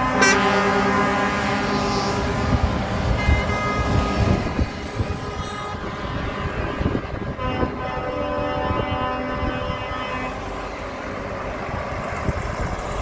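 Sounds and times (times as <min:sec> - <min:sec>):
truck horns: 0:00.0 - 0:10.6
diesel truck engines rumbling: 0:00.0 - 0:13.0.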